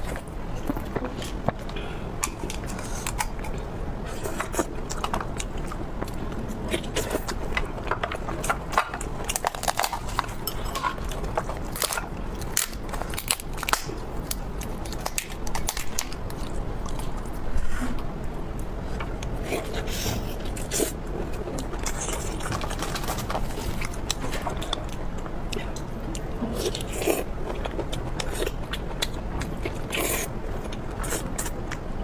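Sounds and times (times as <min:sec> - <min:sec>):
crispy food crunching: 0:00.0 - 0:17.4, 0:20.4 - 0:31.9.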